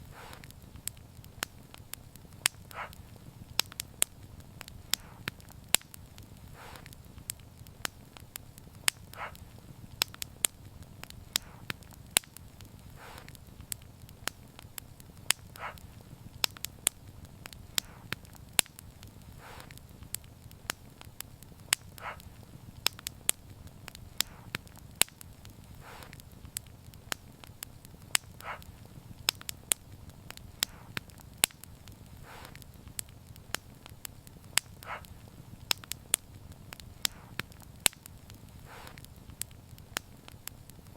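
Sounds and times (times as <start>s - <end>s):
fire hissing: 0.0s - 40.9s
low rumble of burning: 0.0s - 40.9s
wood fire crackling and popping: 0.0s - 40.9s.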